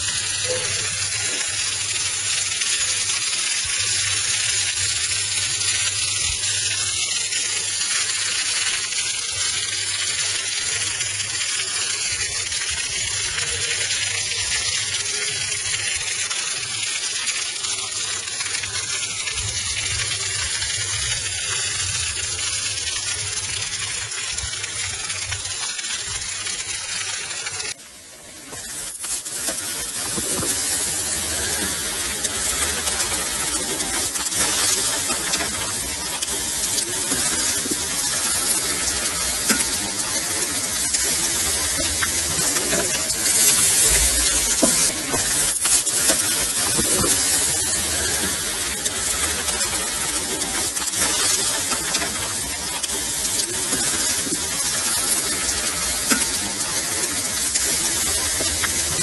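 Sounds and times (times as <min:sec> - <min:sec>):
chicken sizzling on grill: 0:00.0 - 0:59.0
shrimp sizzling on griddle: 0:00.0 - 0:59.0.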